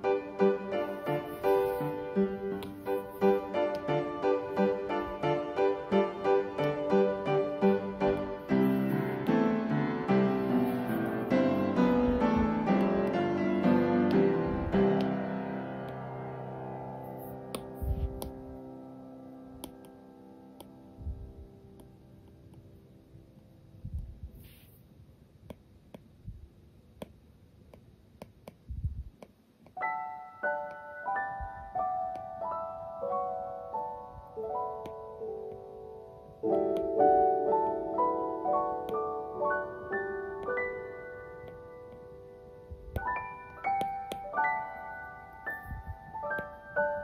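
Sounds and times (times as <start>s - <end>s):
soft piano music: 0.0s - 24.6s, 29.6s - 47.0s.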